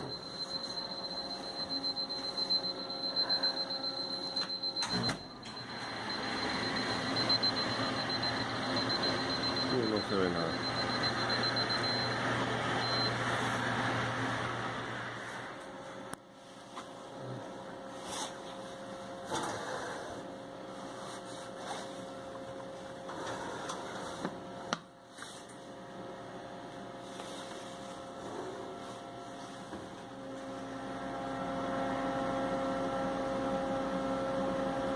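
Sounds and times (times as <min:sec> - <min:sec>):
electrical hum of kitchen equipment: 0:00.0 - 0:34.9.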